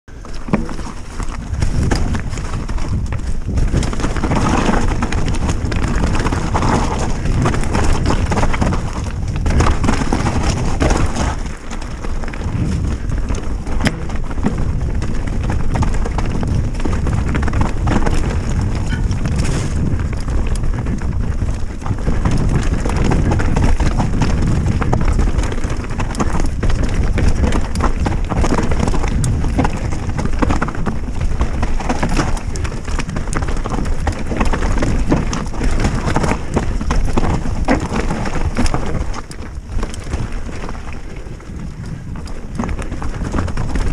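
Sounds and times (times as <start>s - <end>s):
bike rattling over bumps: 0.1s - 43.9s
bike tyres rolling over dirt: 0.1s - 43.9s
wind rumble on microphone: 0.1s - 43.9s.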